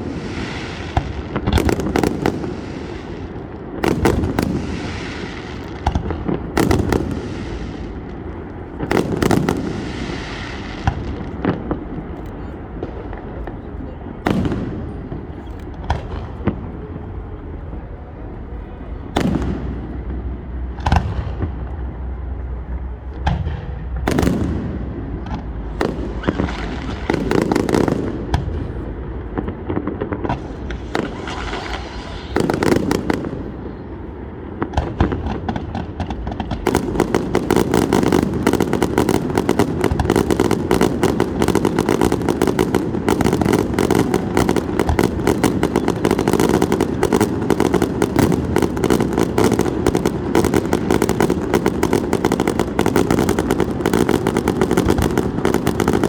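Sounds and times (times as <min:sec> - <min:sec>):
firework bangs: 0:00.0 - 0:17.6, 0:18.7 - 0:56.0
firecrackers crackling: 0:00.0 - 0:56.0.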